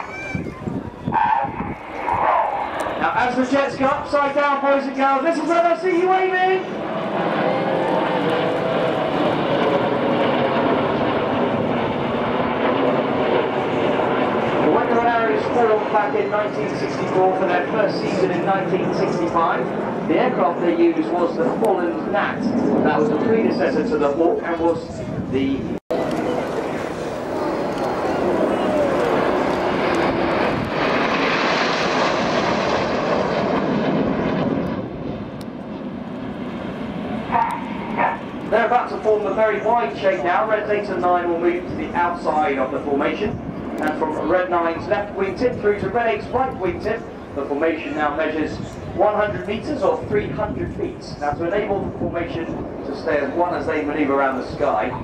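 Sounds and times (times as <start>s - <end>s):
jets flying overhead: 0.0s - 55.0s.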